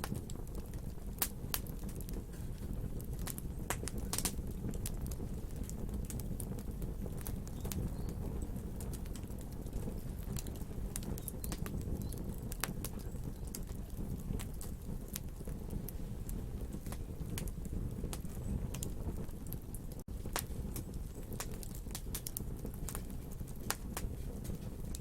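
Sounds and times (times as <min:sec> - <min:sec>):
low rumble of flame: 0:00.0 - 0:25.0
wood fire crackling: 0:00.0 - 0:25.0.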